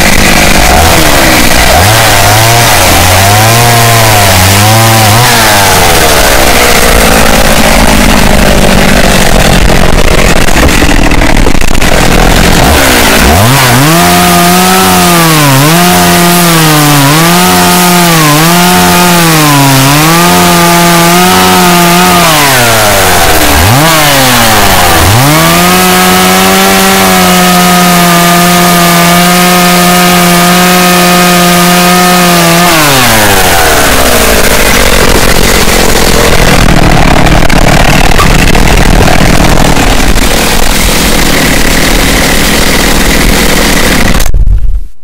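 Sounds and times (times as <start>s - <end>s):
chainsaw engine revving: 0.0s - 44.4s.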